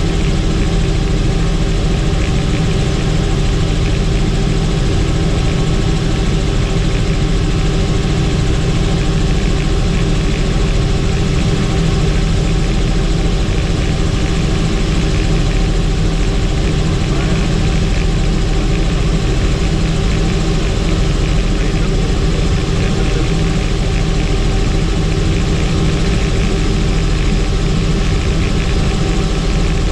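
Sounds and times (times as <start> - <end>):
helicopter rotor and engine: 0.0 - 29.9.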